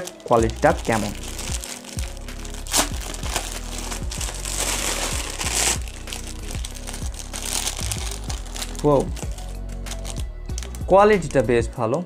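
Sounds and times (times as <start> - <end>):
plastic bag crinkling: 0.0 - 10.8
background music with steady beat: 0.0 - 12.0.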